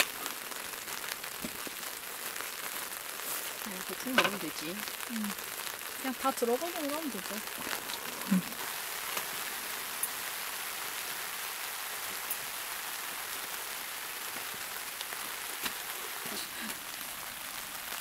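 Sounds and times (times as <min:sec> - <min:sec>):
rain on tent fabric: 0:00.0 - 0:18.0.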